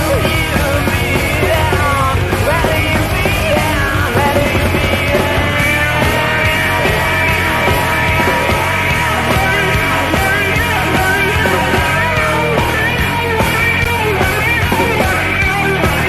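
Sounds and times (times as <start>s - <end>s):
loud rock band playing: 0.0s - 16.0s.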